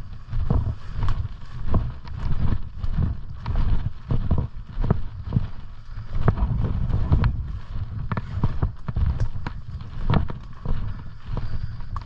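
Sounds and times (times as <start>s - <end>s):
low microphone rumble: 0.0s - 12.0s.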